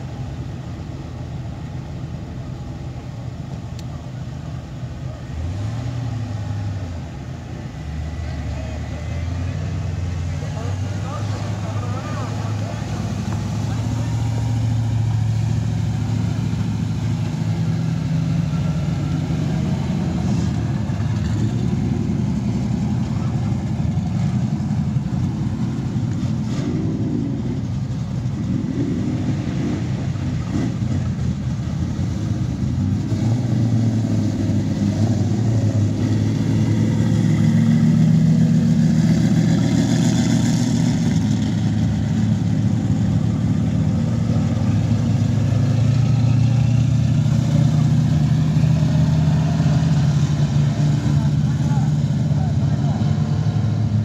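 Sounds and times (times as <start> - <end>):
cars driving past: 0.0 - 54.0.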